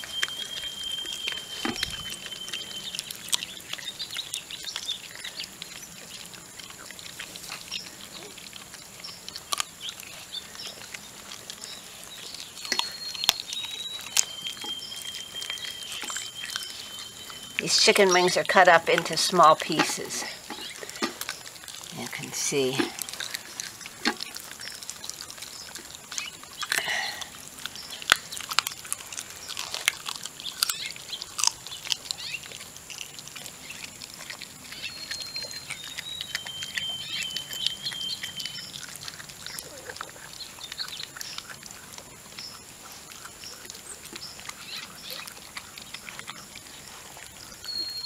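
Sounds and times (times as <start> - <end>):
puppies chewing and crunching bones: 0.0 - 48.0.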